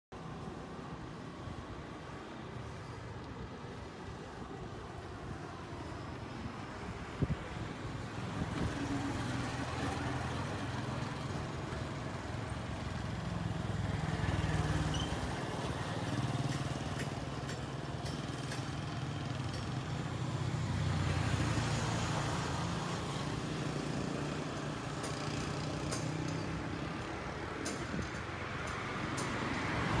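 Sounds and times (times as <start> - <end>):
vehicle engines passing: 0.2 - 30.0.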